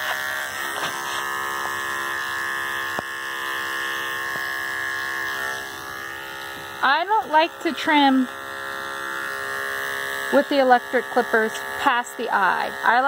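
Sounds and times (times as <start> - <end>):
electric clippers buzzing: 0.0 - 13.0.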